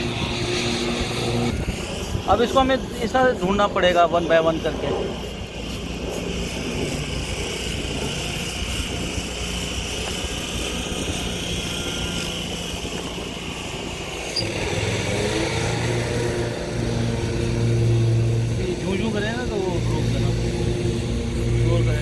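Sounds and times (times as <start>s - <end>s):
deeper engine tone: 0.0s - 22.0s
lawn mower engine droning: 0.0s - 22.0s.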